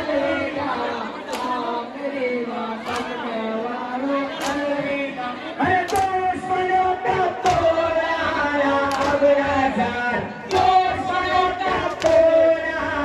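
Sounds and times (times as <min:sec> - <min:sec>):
men chanting in long notes: 0:00.0 - 0:13.0.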